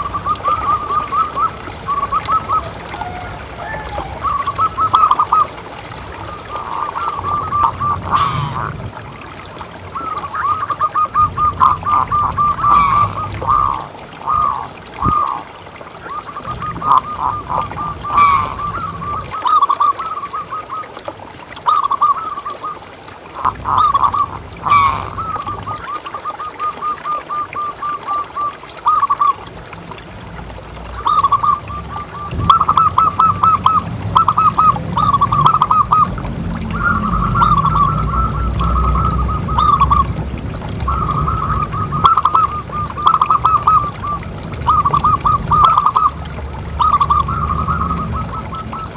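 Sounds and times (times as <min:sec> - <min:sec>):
doves cooing: 0:00.0 - 0:15.5, 0:16.1 - 0:21.0, 0:23.3 - 0:29.4, 0:30.9 - 0:48.9.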